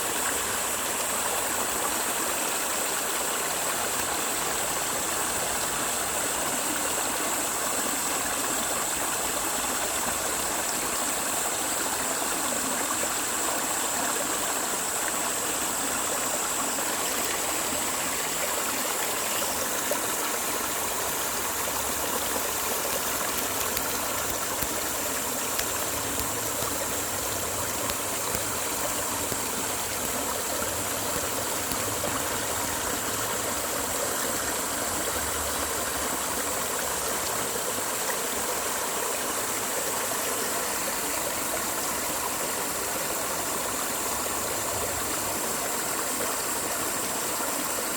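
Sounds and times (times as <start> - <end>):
stream rushing water: 0.0 - 47.9.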